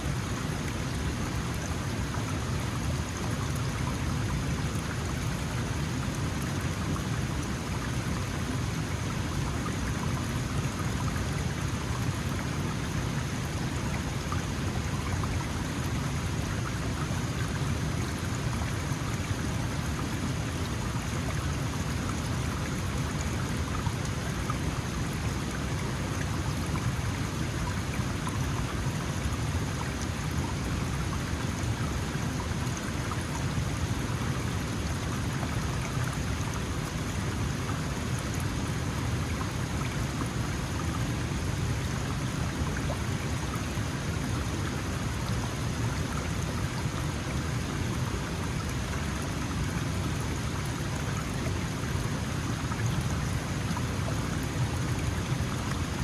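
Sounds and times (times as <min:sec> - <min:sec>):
stream water splashing over rocks: 0:00.0 - 0:56.0.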